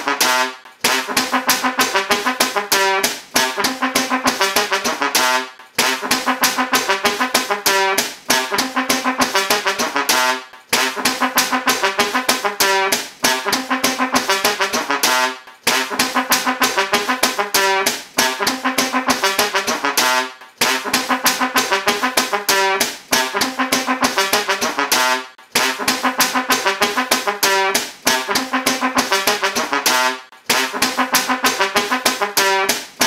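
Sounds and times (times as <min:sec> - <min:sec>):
trombone playing with slide glides: 0:00.0 - 0:33.0.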